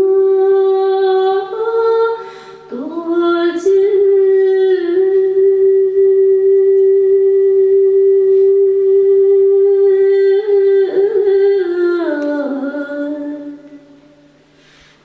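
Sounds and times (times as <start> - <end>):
woman singing unaccompanied: 0.0 - 14.2.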